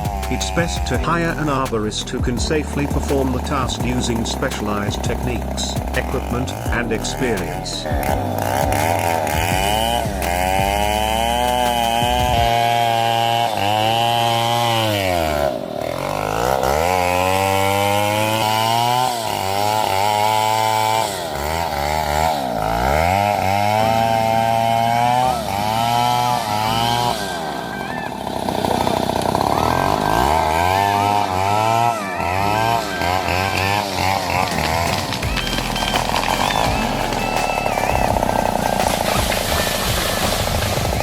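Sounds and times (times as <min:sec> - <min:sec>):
chainsaw cutting wood: 0:00.0 - 0:41.0.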